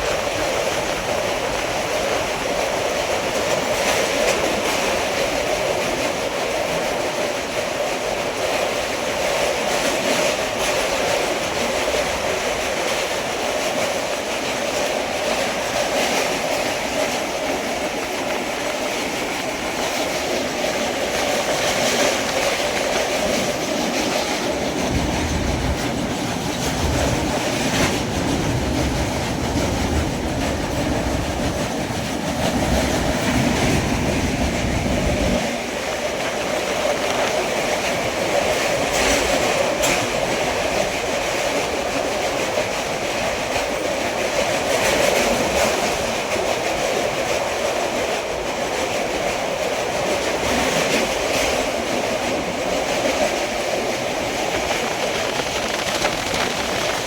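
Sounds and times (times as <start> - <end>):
passenger train rumbling on rails: 0.0 - 57.0.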